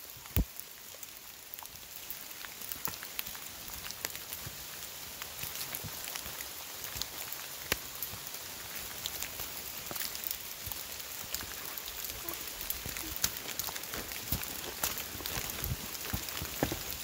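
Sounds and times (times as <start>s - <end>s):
rain hissing in woodland: 0.0s - 17.0s
raindrops ticking close by: 0.0s - 17.0s.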